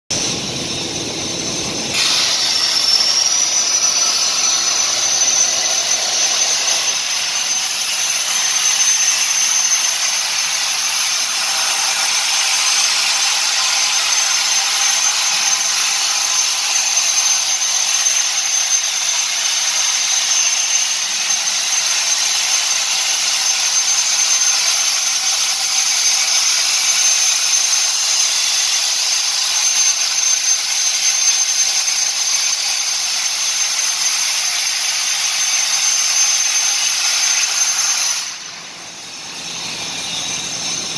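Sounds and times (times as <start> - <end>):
plasma cutting torch hissing: 0.2 - 40.9
thin high whistle: 0.2 - 40.9.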